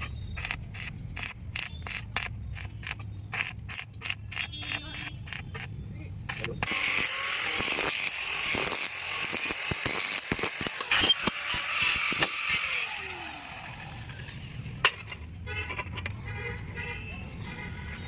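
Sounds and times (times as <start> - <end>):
rapid mechanical clicking and rattling: 0.0 - 15.3.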